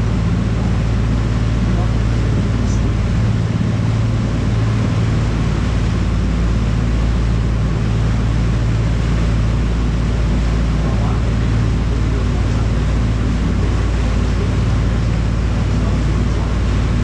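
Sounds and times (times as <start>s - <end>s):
boat engine droning: 0.0s - 17.0s
propeller wake churning: 0.0s - 17.0s.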